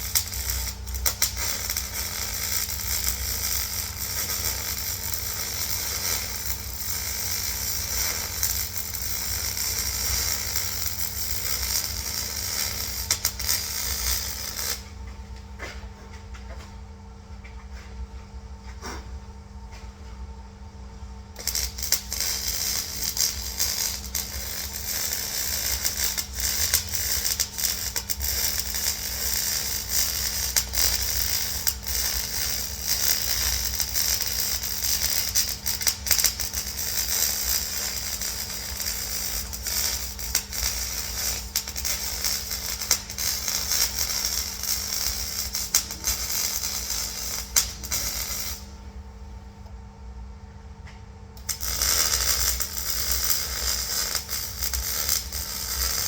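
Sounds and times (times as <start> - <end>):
welding arc crackling hiss: 0.0 - 15.0, 21.3 - 49.0, 51.4 - 56.0.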